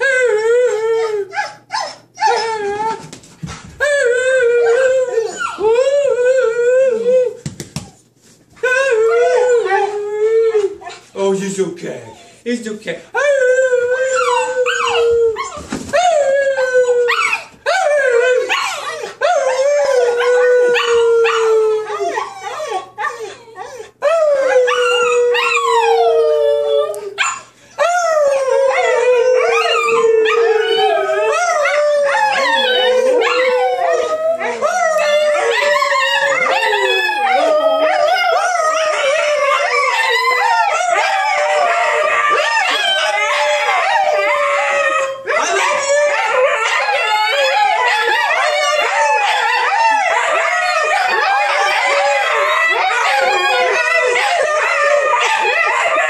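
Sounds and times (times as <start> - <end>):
dogs howling: 0.0 - 3.1, 3.8 - 7.4, 8.6 - 11.1, 13.2 - 56.0.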